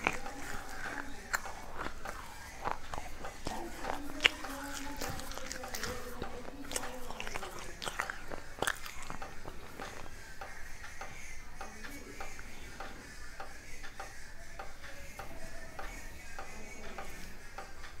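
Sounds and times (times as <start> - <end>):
clay pot pieces being chewed: 0.0 - 18.0.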